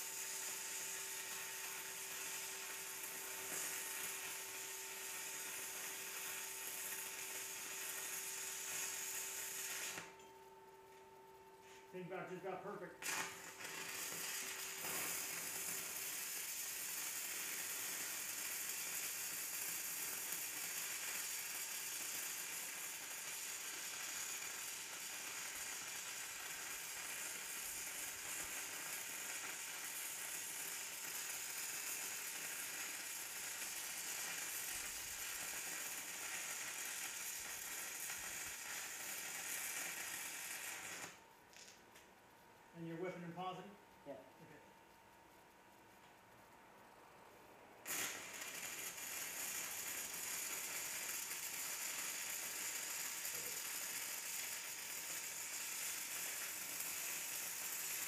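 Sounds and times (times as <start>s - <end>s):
welding arc crackle and hiss: 0.0s - 10.2s, 11.6s - 46.2s, 47.8s - 58.0s.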